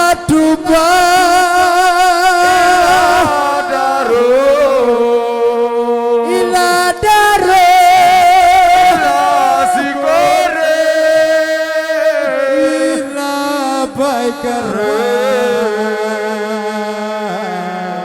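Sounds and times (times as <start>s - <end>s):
amplified voice chanting: 0.0s - 18.0s.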